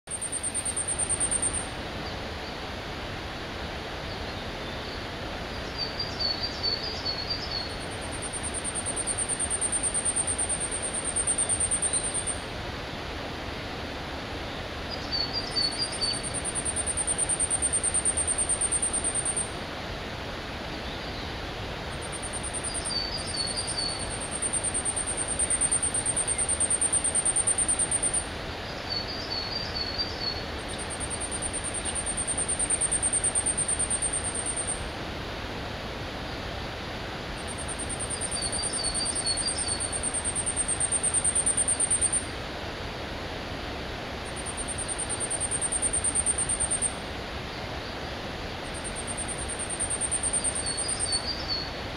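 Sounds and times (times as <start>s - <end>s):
outdoor hiss: 0.1s - 51.9s.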